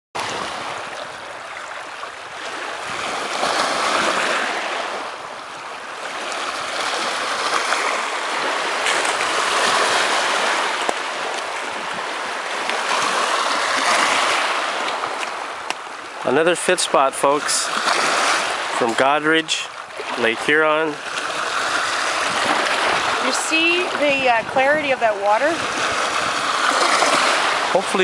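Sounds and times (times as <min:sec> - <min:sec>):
waves washing onto pebble shore: 0:00.2 - 0:28.0.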